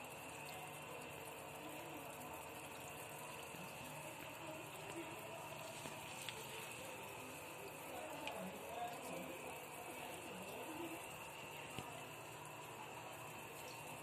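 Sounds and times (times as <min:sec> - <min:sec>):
faint running water: 0:00.0 - 0:14.0.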